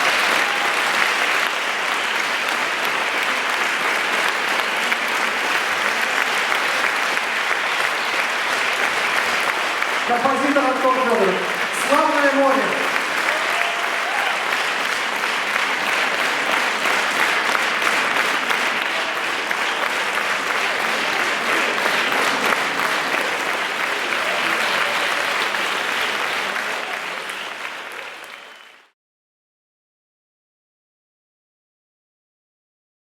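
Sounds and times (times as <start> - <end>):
audience applauding: 0.0 - 29.0.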